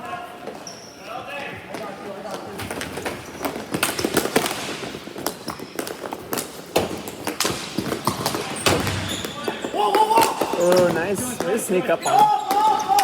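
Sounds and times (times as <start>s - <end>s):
hockey sticks striking ball: 2.4s - 13.0s.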